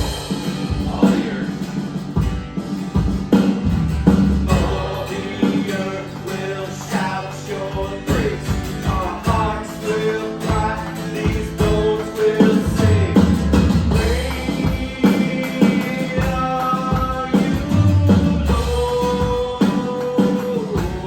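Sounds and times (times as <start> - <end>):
voices singing: 0.0 - 2.1, 4.4 - 21.0
bass and guitar chords: 0.0 - 21.0
drums: 0.0 - 21.0.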